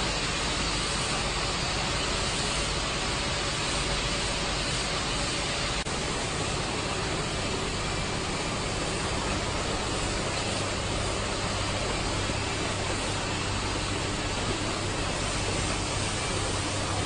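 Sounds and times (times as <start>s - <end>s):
hiss of vibratory feeder: 0.0s - 17.0s
mechanical hum: 0.0s - 17.0s.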